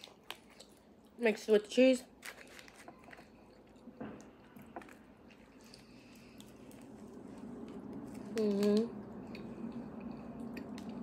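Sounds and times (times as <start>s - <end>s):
faint chewing: 0.0s - 1.2s, 2.1s - 11.0s.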